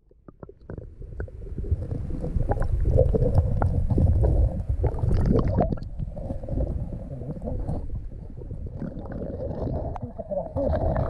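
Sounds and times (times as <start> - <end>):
underwater rumbling and sloshing: 0.0 - 11.0.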